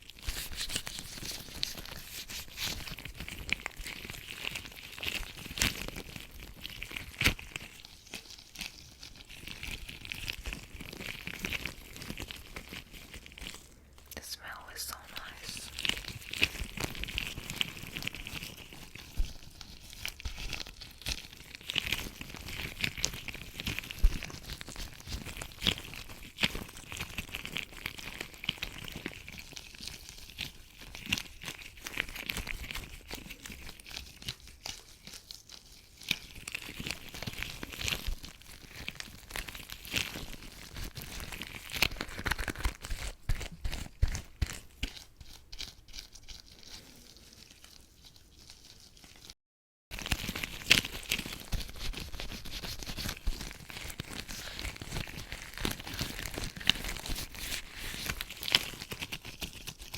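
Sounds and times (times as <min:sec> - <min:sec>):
latex gloves rubbing and crinkling: 0:00.0 - 0:14.1, 0:14.9 - 0:59.9.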